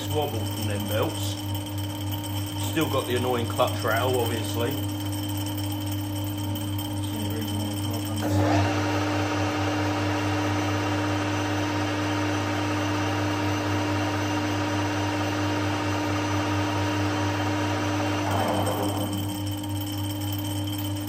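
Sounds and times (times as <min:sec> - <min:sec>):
lathe mechanical whir: 0:00.0 - 0:21.0
motor hum: 0:00.0 - 0:21.0.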